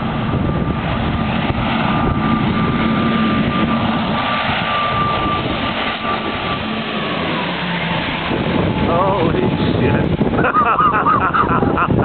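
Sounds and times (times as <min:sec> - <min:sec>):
turboprop plane engines droning: 0:00.0 - 0:12.0.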